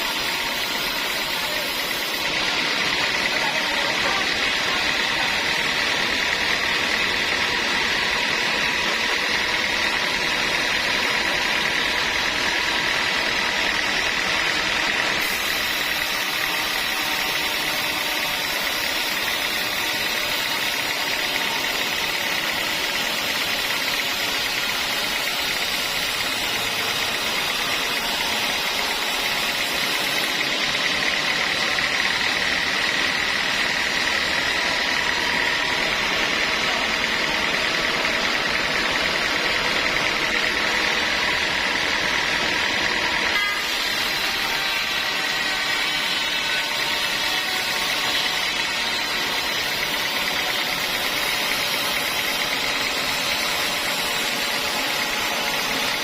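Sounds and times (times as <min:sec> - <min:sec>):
sawmill saw whining: 0:00.0 - 0:56.0.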